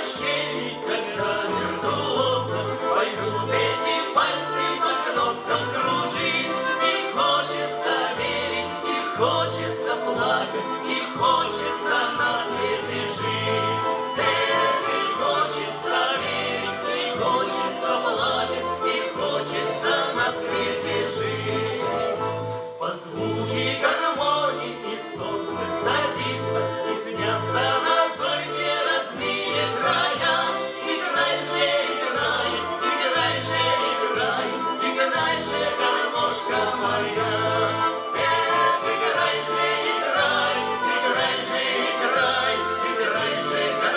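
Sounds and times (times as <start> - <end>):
button accordion: 0.0 - 43.9
vocal ensemble singing in chorus: 0.0 - 43.9.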